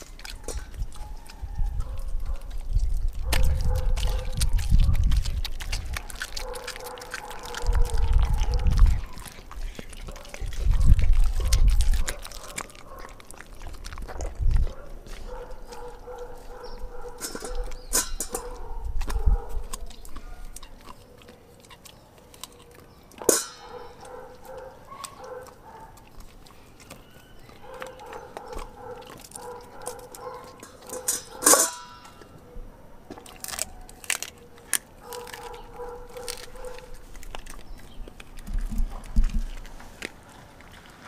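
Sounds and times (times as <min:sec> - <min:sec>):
teeth clicking: 0:00.0 - 0:31.4, 0:33.2 - 0:40.7
dog chewing food: 0:00.0 - 0:32.4, 0:33.0 - 0:41.0.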